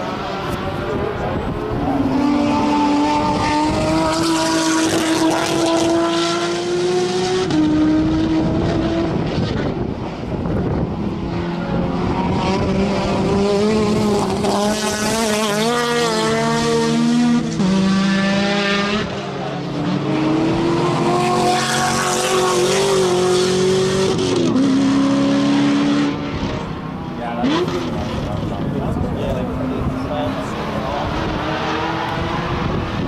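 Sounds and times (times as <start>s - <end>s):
race car engine under load: 0.0s - 33.0s.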